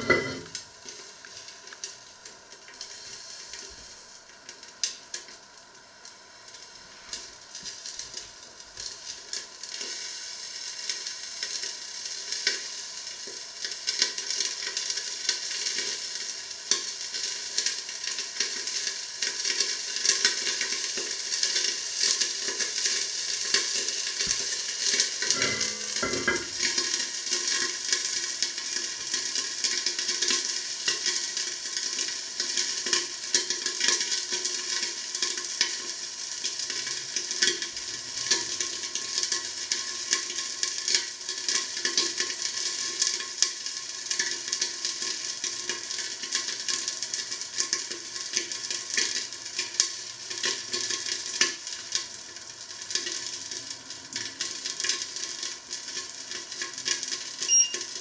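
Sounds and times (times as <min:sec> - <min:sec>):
food sizzling in hot fat: 0:00.0 - 0:58.0.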